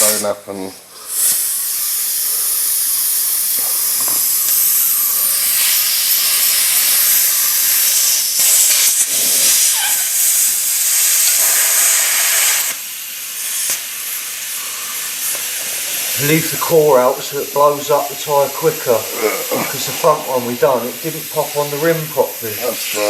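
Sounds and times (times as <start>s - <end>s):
compressed air hissing into tyre: 0.9s - 23.0s.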